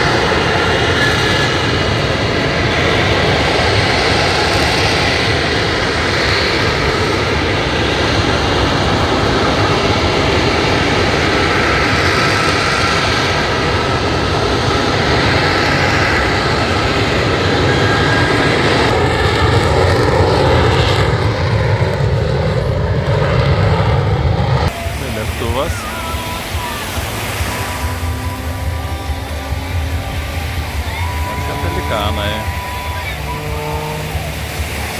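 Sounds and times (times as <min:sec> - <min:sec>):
airplane engine noise: 0:00.0 - 0:34.9.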